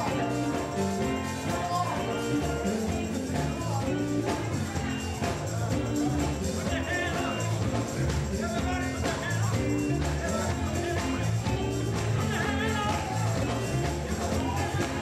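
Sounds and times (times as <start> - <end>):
band playing gospel beat: 0.0 - 15.0
people singing: 0.0 - 15.0.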